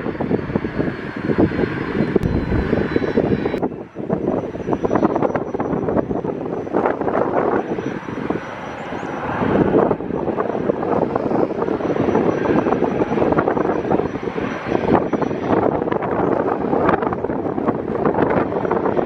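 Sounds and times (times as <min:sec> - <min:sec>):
high engine whine: 0:00.0 - 0:19.0
jet engines roaring: 0:00.0 - 0:19.0.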